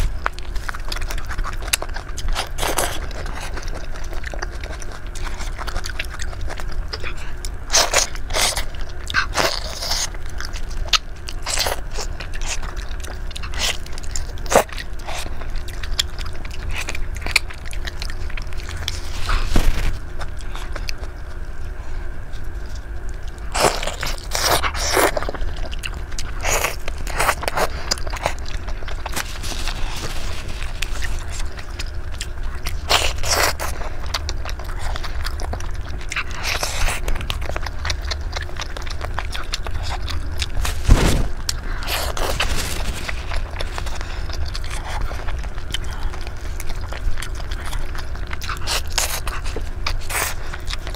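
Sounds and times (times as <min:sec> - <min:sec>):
tearing meat: 0:00.0 - 0:21.6, 0:22.3 - 0:50.9
low hum: 0:00.0 - 0:50.9
wet chewing: 0:00.0 - 0:50.9.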